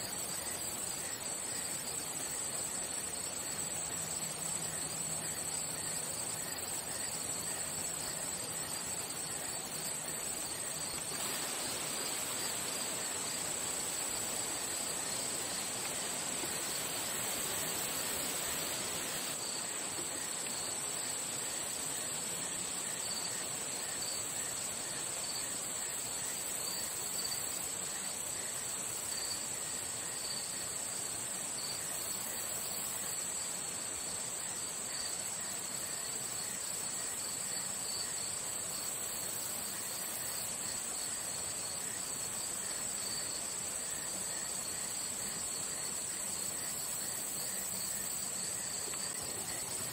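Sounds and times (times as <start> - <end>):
high-pitched insect trill: 0.0 - 49.9
rapidly pulsing insect trill: 0.0 - 49.9
soft background hiss: 0.0 - 49.9.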